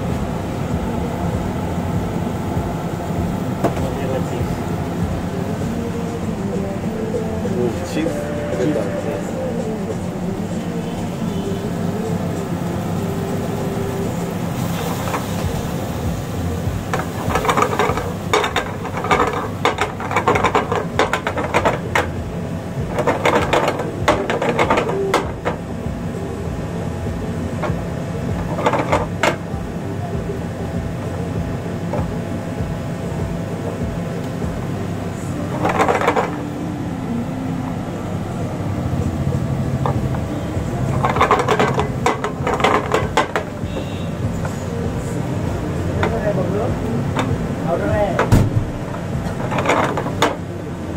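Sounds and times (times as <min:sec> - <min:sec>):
low hum: 0:00.0 - 0:50.9.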